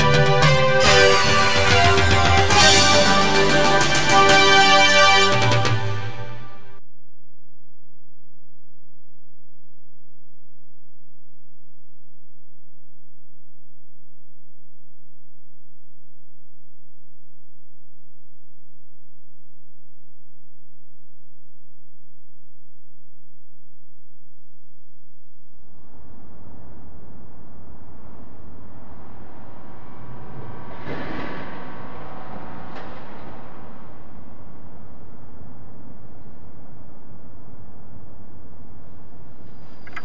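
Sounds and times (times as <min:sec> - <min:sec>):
faint high whine: 0:06.2 - 0:40.0
tape hiss: 0:06.2 - 0:40.0
electrical hum: 0:06.8 - 0:40.0.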